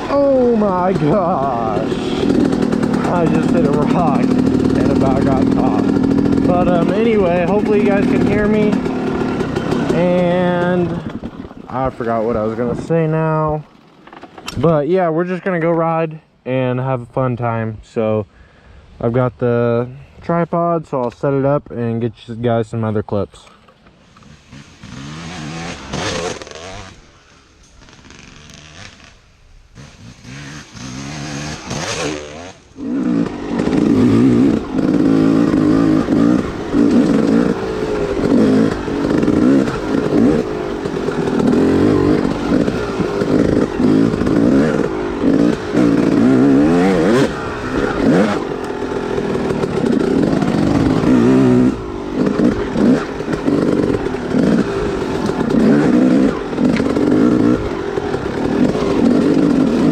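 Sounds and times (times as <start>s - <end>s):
dirt bike engine revving: 0.0s - 14.8s, 24.0s - 59.9s.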